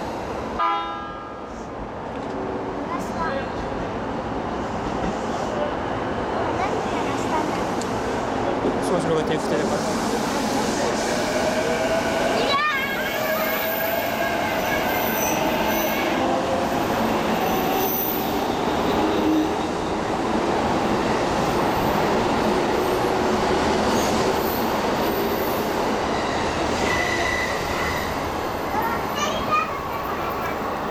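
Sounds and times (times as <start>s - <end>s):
train wheels on rails: 1.5s - 30.9s.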